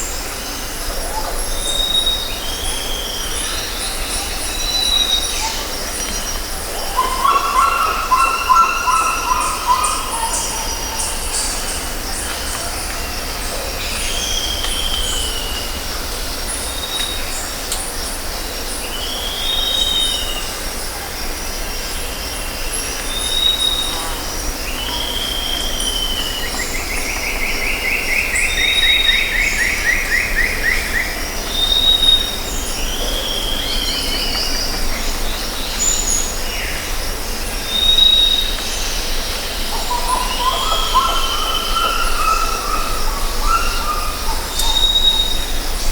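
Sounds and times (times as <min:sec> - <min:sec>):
insect drone: 0:00.0 - 0:45.9.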